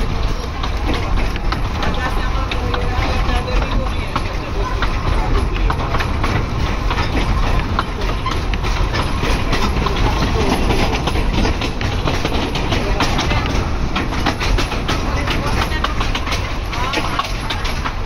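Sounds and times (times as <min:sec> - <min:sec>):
train rumbling on track: 0:00.0 - 0:18.0
wheels rattling and clicking: 0:00.0 - 0:18.0.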